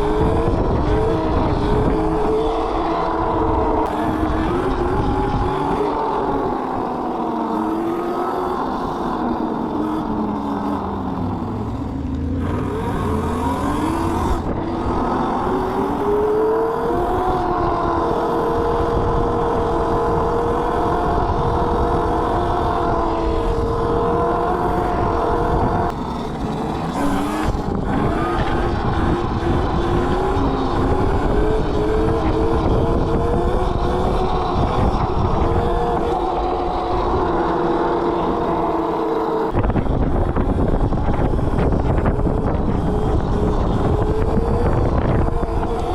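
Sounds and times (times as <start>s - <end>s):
electric motor whining: 0.0s - 45.9s.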